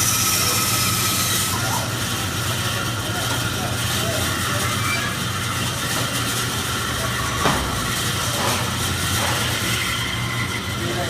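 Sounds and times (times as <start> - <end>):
bandsaw humming and whining: 0.0 - 11.0.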